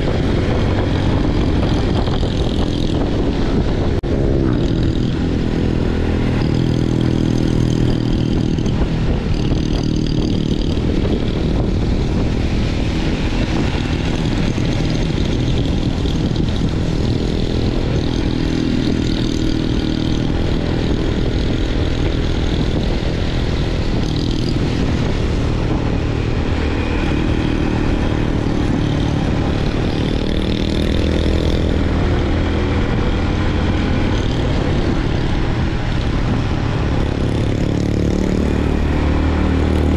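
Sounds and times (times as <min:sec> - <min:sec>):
motorcycle engine: 0:00.0 - 0:39.9
wind and road noise: 0:00.0 - 0:39.9.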